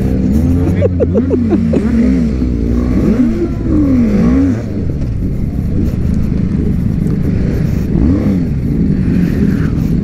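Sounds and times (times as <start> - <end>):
motorcycle engines revving: 0.0 - 10.0
motorcycles idling: 0.0 - 10.0.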